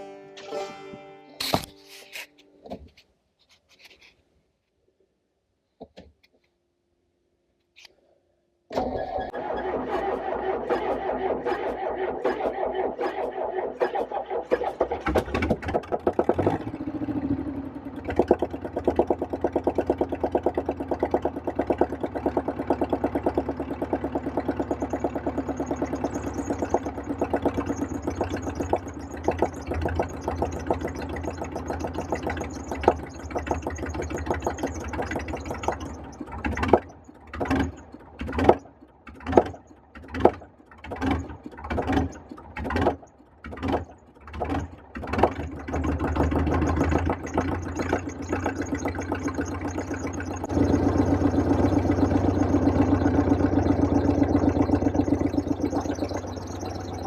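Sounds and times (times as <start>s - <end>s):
starter motor cranking diesel engine: 8.7s - 57.0s.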